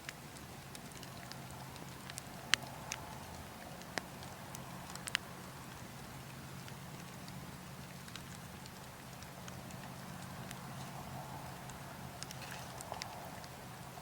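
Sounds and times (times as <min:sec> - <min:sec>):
burning logs crackling: 0:00.0 - 0:14.0
steady wind: 0:00.0 - 0:14.0.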